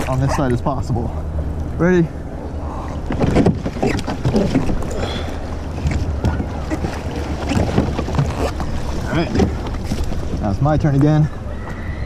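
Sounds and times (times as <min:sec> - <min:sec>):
water splashing and sloshing: 0:00.0 - 0:12.0
wind rumbling on microphone: 0:02.3 - 0:12.0.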